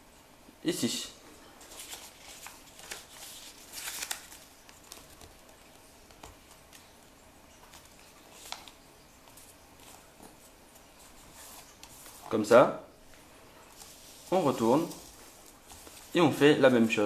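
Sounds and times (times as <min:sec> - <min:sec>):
paper rustling and crinkling: 0:01.6 - 0:12.5, 0:13.6 - 0:17.0.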